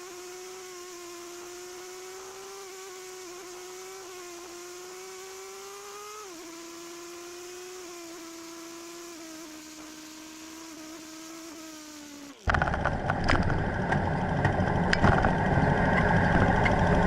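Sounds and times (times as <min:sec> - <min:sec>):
motorcycle engine whining: 0:00.0 - 0:17.0.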